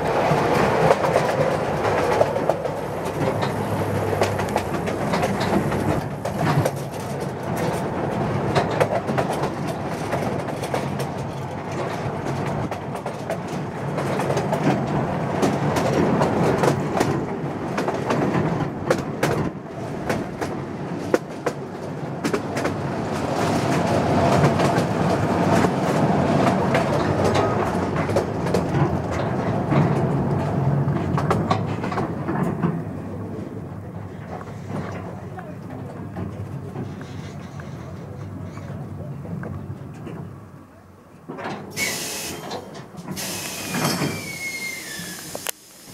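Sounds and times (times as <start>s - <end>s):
wheels clicking over rail joints: 0.0s - 45.6s
train rumble and rattle: 0.0s - 45.9s.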